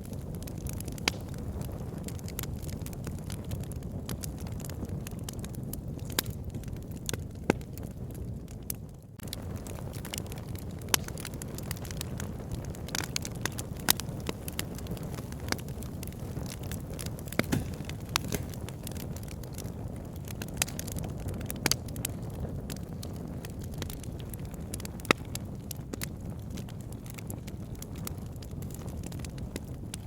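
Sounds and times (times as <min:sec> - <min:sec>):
fire flames rumbling: 0:00.0 - 0:30.0
logs crackling and popping: 0:00.0 - 0:30.0.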